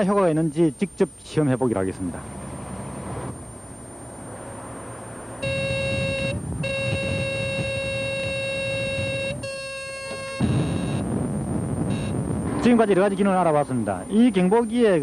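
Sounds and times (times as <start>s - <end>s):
lane departure warning tone: 0.0s - 15.0s
car road rumble: 1.1s - 15.0s.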